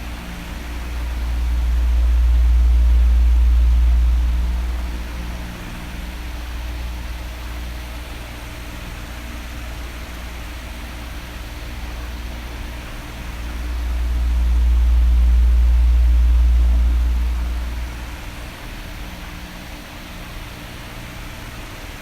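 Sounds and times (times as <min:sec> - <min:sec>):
electric fan blowing: 0:00.0 - 0:22.0.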